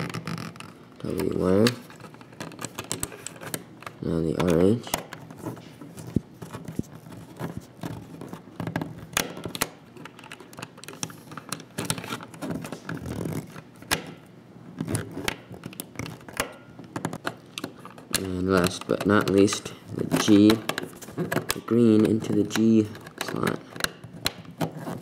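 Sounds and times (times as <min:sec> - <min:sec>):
wire handling: 0:00.0 - 0:25.0.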